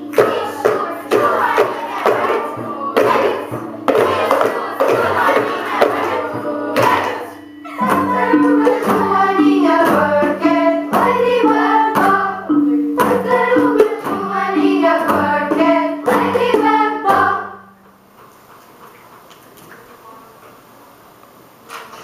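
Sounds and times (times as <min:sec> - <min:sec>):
recorders and tuned percussion playing: 0:00.0 - 0:18.2.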